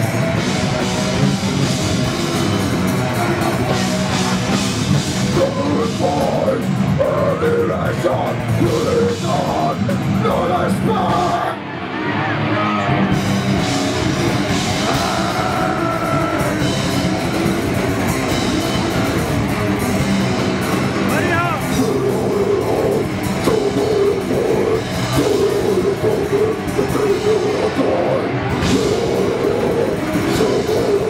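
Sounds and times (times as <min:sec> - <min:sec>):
drum kit: 0:00.0 - 0:11.6, 0:12.9 - 0:31.0
bass guitar: 0:00.0 - 0:31.0
electric guitars: 0:00.0 - 0:31.0.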